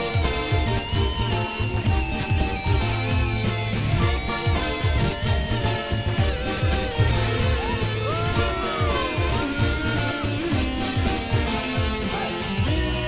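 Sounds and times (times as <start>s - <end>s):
guitar: 0.0s - 13.0s
steady drum beat: 0.0s - 13.0s.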